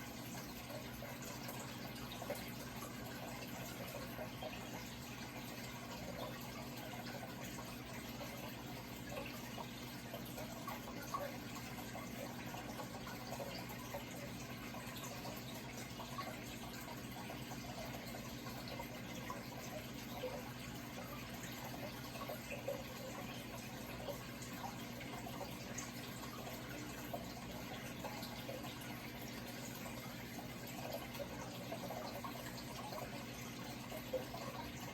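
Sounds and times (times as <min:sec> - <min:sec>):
low steady hum: 0:00.0 - 0:34.9
water trickling and splashing: 0:00.0 - 0:34.9.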